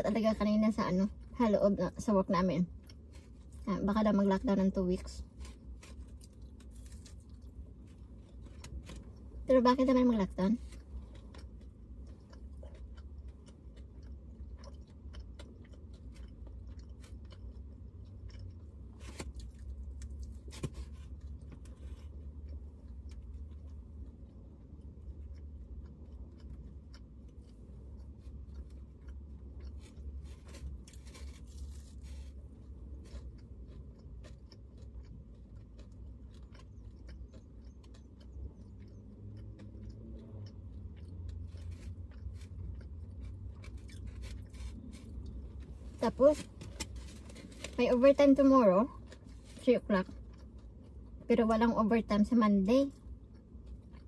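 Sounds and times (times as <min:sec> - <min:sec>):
steady low hum: 0:00.0 - 0:54.0
person chewing crunchy food: 0:00.1 - 0:51.4, 0:52.9 - 0:54.0.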